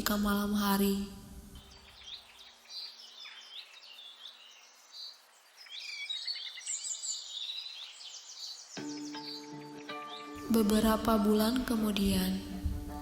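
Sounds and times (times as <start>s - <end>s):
small birds chirping and singing: 0.0s - 13.0s.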